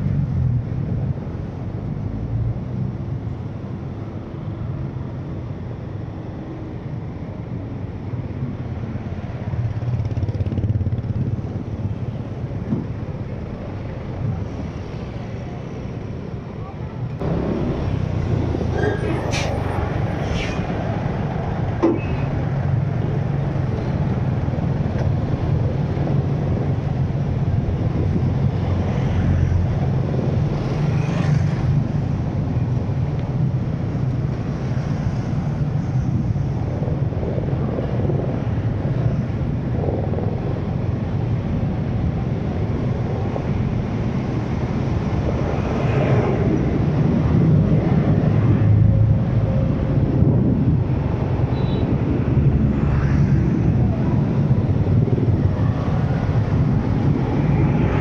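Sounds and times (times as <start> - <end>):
engine and tyre road rumble: 0.0 - 58.0.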